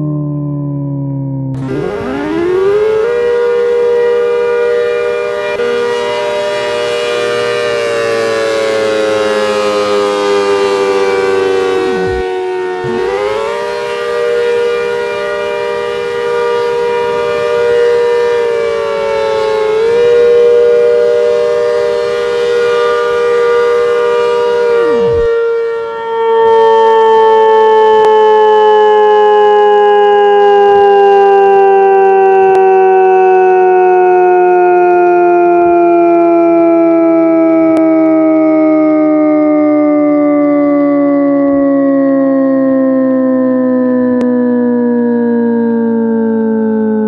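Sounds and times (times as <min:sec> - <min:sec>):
civil defense siren: 0:00.0 - 0:47.0.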